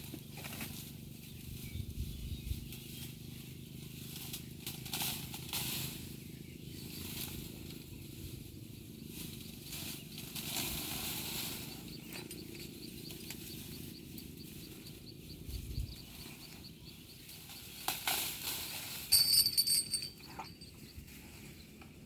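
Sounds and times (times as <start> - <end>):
rustling and hissing: 0.1 - 19.2.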